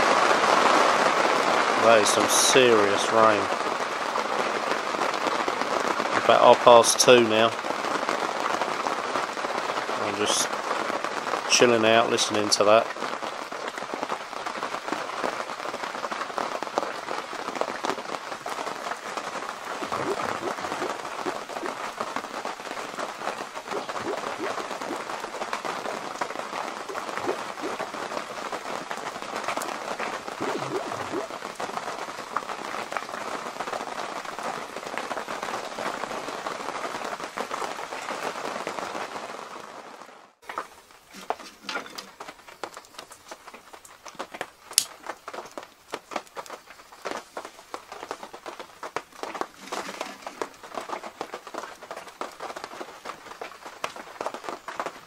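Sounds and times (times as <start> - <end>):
heavy rain on tent canvas: 0.0 - 55.0.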